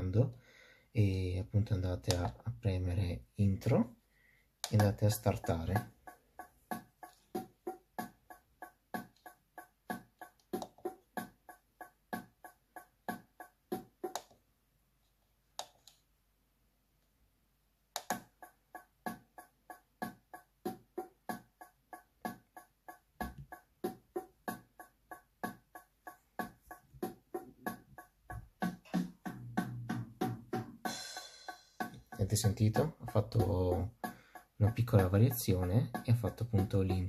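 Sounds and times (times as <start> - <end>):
keyboard rhythm beat pattern: 0.0 - 14.6, 17.9 - 37.0.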